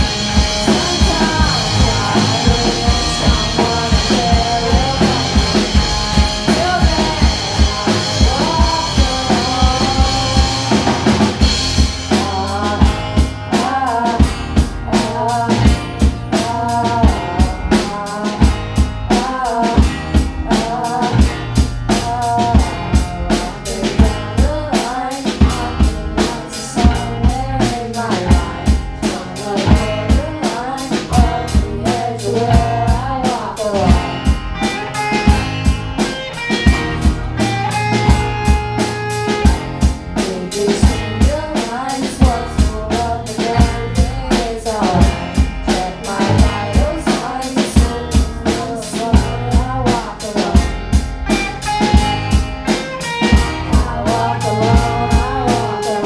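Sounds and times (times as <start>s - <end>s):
drum kit beat: 0.0s - 56.0s
electric guitars: 0.0s - 56.0s.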